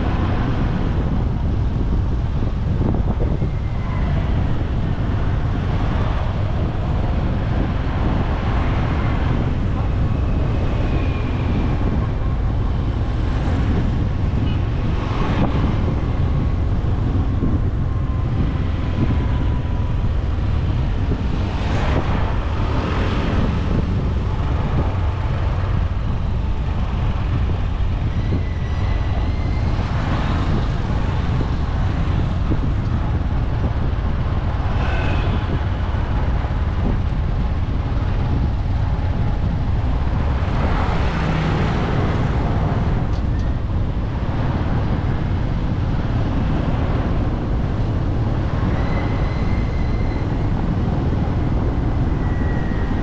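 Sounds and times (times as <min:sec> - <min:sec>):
road traffic noise: 0:00.0 - 0:53.0
wind rumble on microphone: 0:00.0 - 0:53.0.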